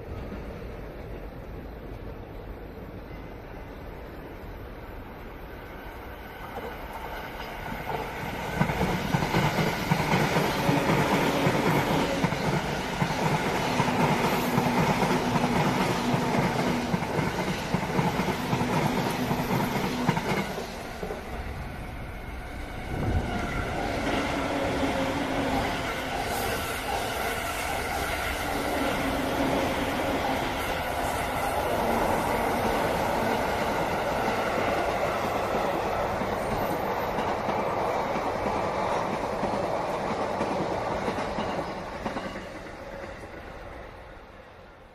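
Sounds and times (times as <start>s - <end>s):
electric trains passing: 0.0s - 44.9s.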